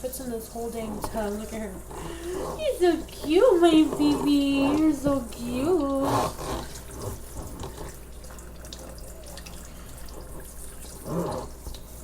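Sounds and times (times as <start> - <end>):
tap water running into tub: 0.0 - 12.0.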